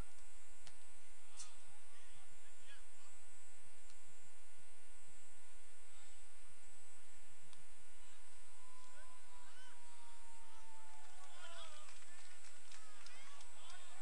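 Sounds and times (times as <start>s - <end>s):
electrical hum and buzz: 0.0s - 14.0s.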